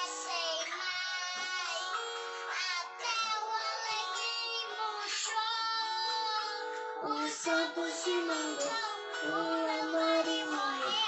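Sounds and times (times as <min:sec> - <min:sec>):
children's song with child-like singing: 0:00.0 - 0:11.0.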